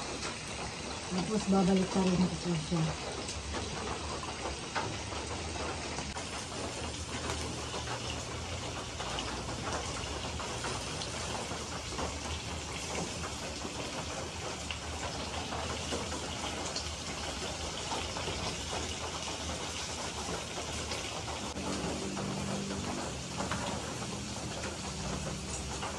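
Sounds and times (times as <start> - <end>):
pork sizzling in oil: 0.0 - 25.9.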